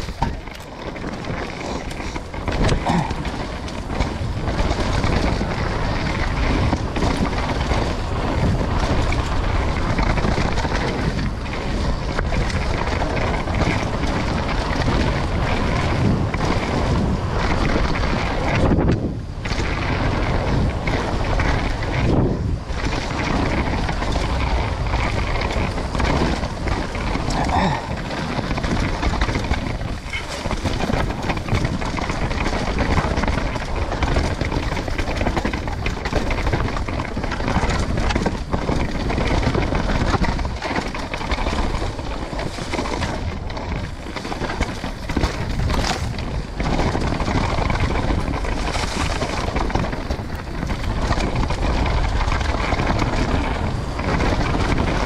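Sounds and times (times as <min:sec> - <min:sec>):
bike knocks and rattles: 0:00.0 - 0:55.0
tyres rumbling over dirt: 0:00.0 - 0:55.0
wind rushing over microphone: 0:00.0 - 0:55.0.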